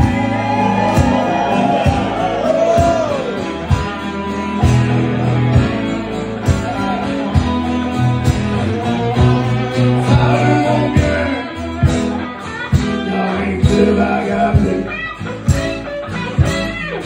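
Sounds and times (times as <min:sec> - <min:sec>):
acoustic guitar strumming: 0:00.0 - 0:17.0
electric guitar: 0:00.0 - 0:17.0
steady drum beat: 0:00.0 - 0:17.0
sustained bass notes: 0:00.0 - 0:17.0.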